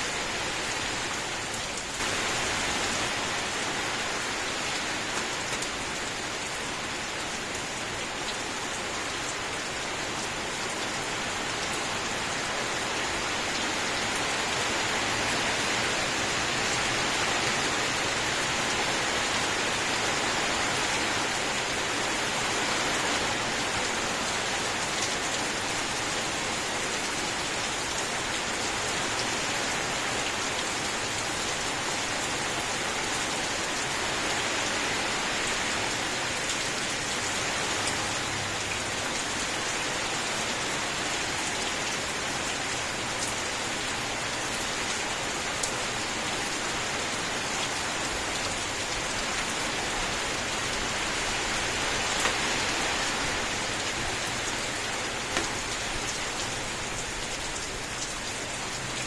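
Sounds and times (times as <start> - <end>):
rain hissing on a surface: 0.0 - 59.0.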